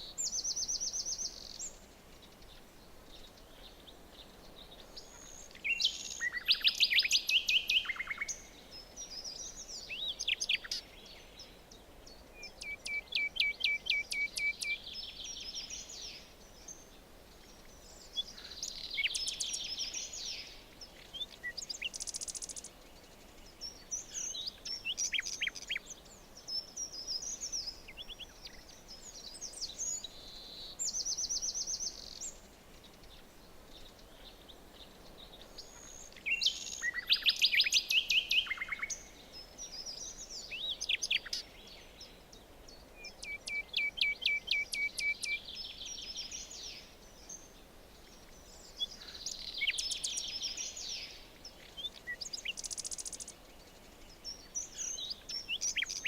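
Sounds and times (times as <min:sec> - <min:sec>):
faint steady hiss: 0:00.0 - 0:56.0
songbirds singing and calling: 0:00.0 - 0:56.0.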